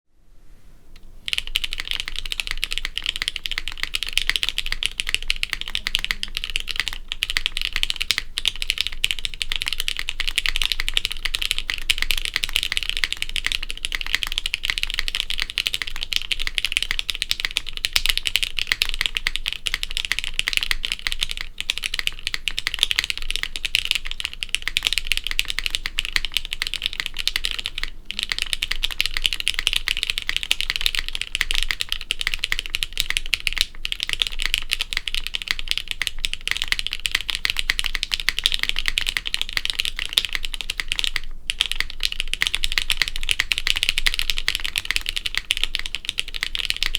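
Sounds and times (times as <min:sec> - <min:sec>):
fast mechanical keyboard typing: 0:01.2 - 0:46.9.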